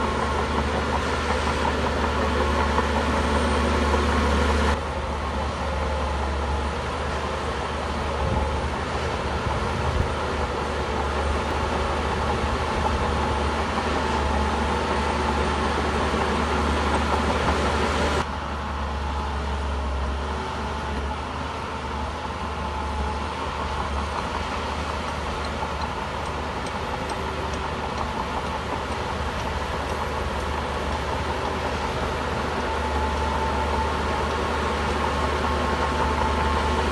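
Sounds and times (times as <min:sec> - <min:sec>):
bulldozer diesel engine humming: 0:00.0 - 0:36.9.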